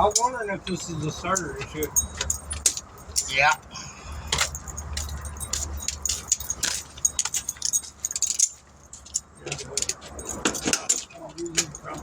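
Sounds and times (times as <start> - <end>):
keys jangling: 1.3 - 12.0.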